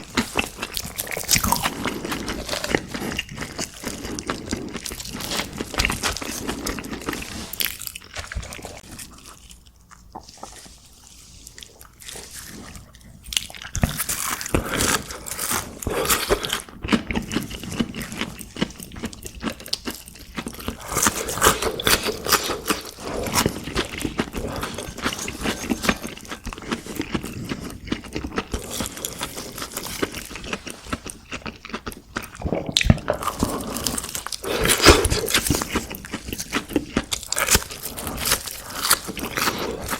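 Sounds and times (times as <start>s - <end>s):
chewing crunchy fried food: 0.0s - 39.9s.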